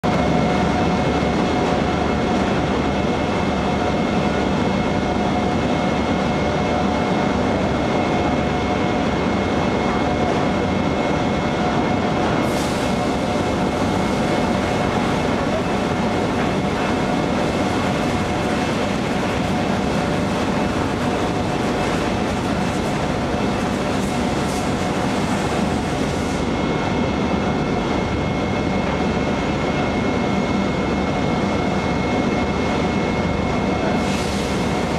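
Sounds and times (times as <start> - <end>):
machinery drone with whining tones: 0.0 - 34.9.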